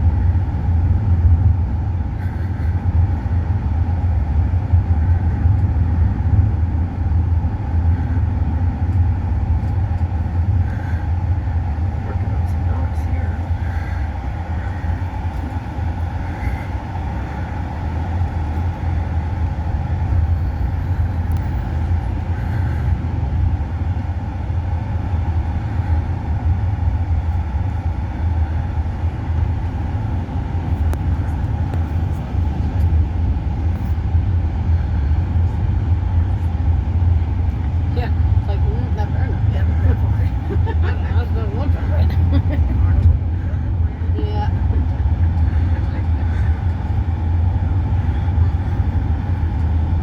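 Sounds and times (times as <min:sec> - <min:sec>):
bus engine: 0:00.0 - 0:50.0
road rumble: 0:00.0 - 0:50.0.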